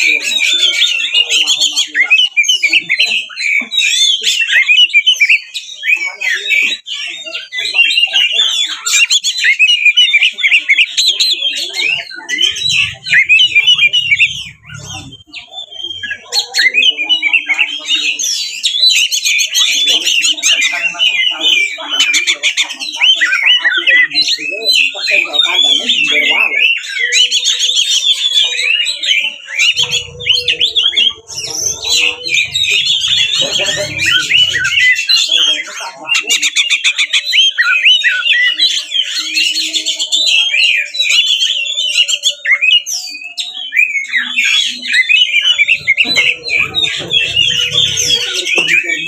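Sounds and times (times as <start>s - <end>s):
bird singing whistles and chirps: 0.0s - 49.0s.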